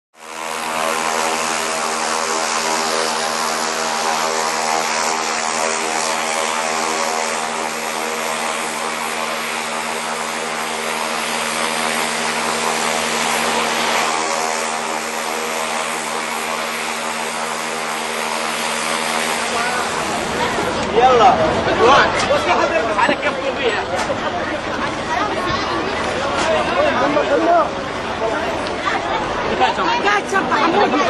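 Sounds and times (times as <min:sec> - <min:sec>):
drone propellers buzzing: 0:00.2 - 0:31.0.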